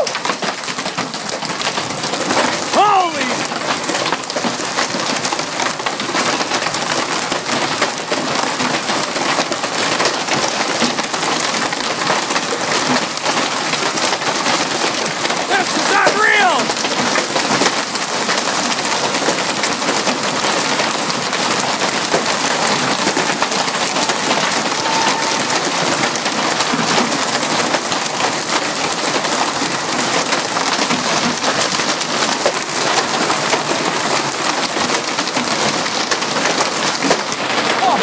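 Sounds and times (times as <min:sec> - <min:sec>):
hailstones clattering on hard surfaces: 0:00.0 - 0:38.0.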